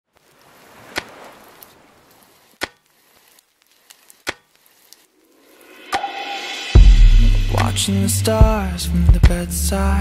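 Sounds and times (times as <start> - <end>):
soft hiss: 0.1 - 8.9.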